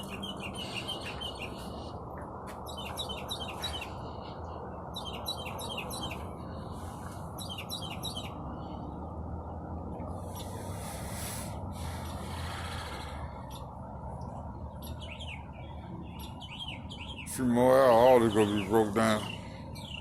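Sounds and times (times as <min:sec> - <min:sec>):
small birds chirping: 0:00.0 - 0:09.0, 0:10.0 - 0:20.0.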